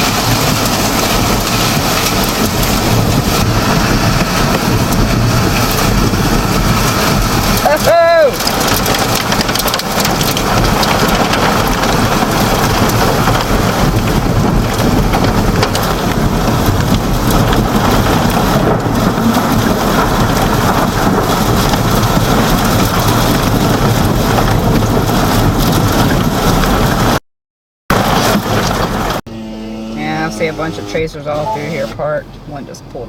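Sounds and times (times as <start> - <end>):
hail and rain on vehicle roof: 0.0 - 27.2, 27.9 - 29.2.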